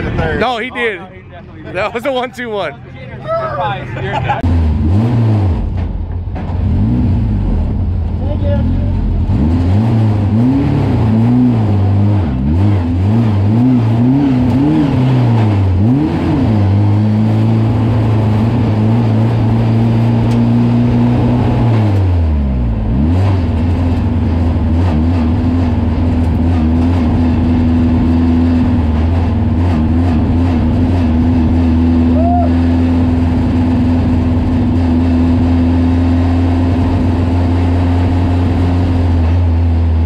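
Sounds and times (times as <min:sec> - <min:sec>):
truck engine revving: 0:03.6 - 0:40.0.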